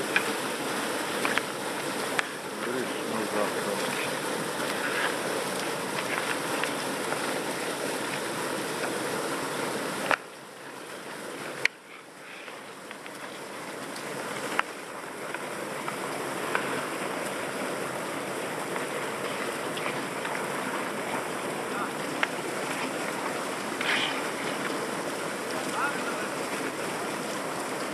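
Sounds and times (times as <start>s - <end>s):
stream water rushing under ice: 0.0s - 27.9s.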